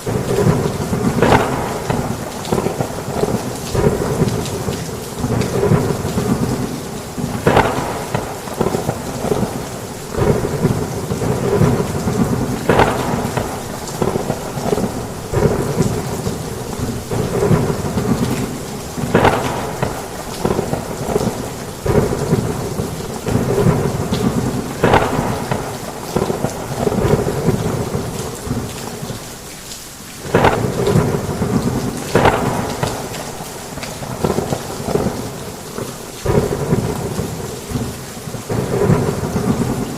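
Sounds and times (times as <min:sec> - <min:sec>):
thunder rumbling: 0:00.0 - 0:29.2, 0:30.2 - 0:39.9
heavy rain pouring: 0:00.0 - 0:39.9.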